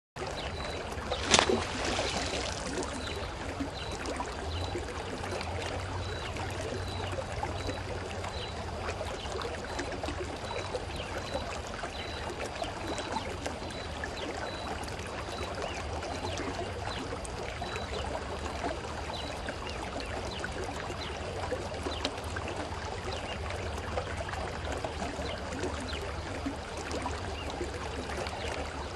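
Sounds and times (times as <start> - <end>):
stream water trickling: 0.2 - 28.9.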